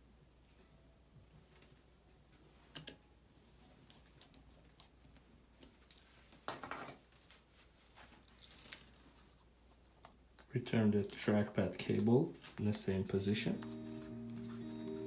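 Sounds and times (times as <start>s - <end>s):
faint handling noises: 0.4s - 15.0s.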